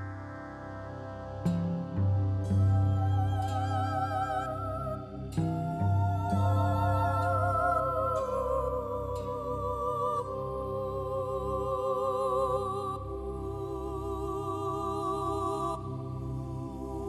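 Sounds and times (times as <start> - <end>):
song with wavering melody: 0.0 - 17.0
pulsing low bass: 1.1 - 17.0.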